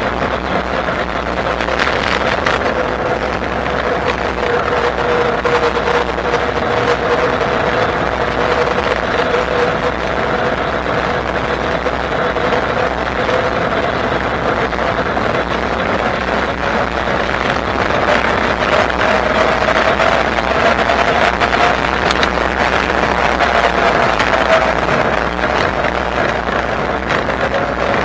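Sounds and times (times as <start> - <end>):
wind: 0.0 - 28.0.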